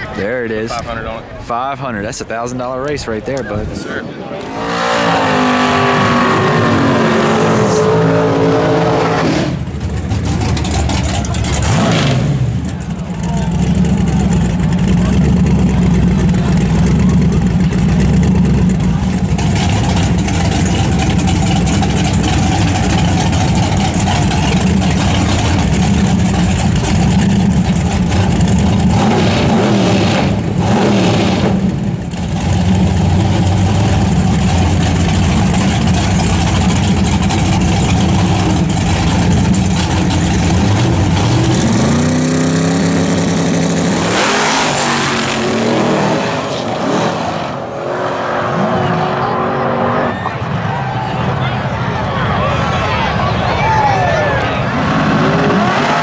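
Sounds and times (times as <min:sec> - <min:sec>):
drag car engines running loudly: 0:00.0 - 0:56.0
engine revving up: 0:04.3 - 0:51.9, 0:54.1 - 0:56.0.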